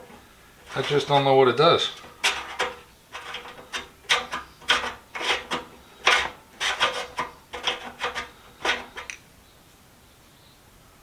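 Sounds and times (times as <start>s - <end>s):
metal tools scraping in toolbox: 0.0s - 9.2s.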